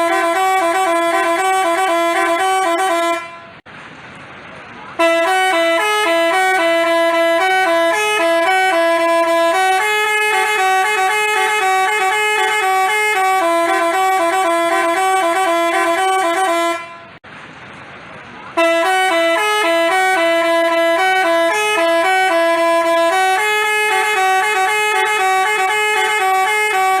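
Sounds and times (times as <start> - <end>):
multi-tone bus horn melody: 0.0 - 3.6, 4.9 - 17.2, 18.5 - 27.0.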